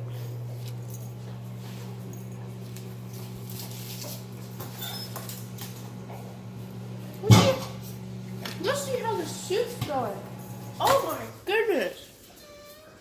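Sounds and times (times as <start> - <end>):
microwave oven humming: 0.0 - 11.4.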